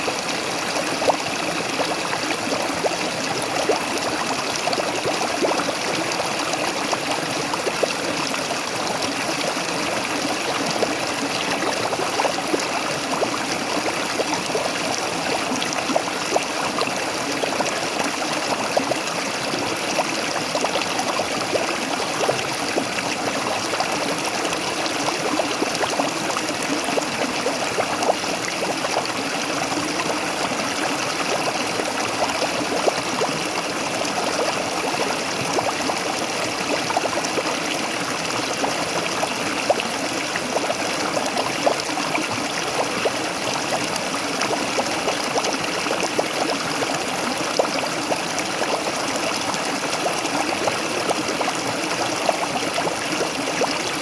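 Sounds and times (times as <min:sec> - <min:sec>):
waterfall pouring and splashing: 0:00.0 - 0:54.0.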